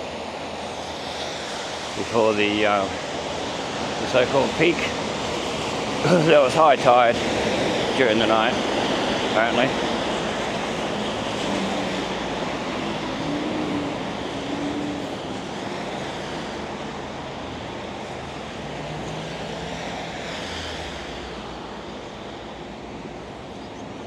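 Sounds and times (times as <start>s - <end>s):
traffic on wet street: 0.0s - 24.0s
rain hissing: 0.6s - 22.6s.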